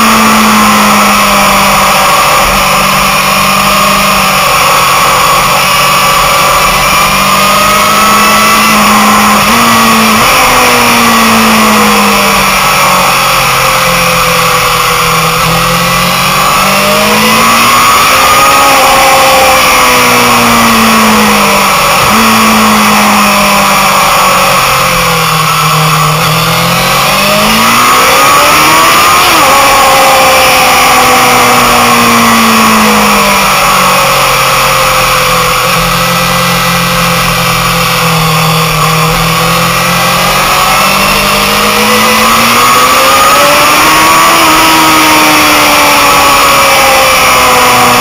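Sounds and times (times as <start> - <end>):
motorcycle engine at racing speed: 0.0 - 48.0.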